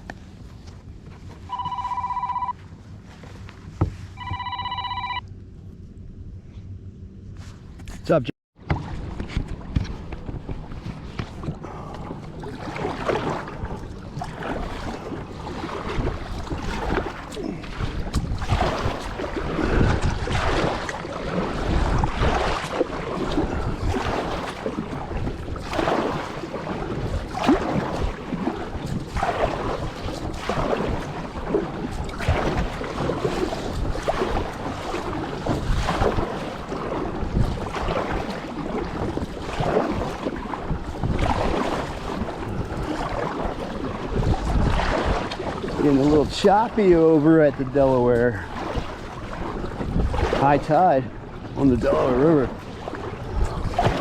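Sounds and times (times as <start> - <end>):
water splashing against kayak hull: 7.4 - 54.0
wind buffeting microphone: 8.7 - 54.0.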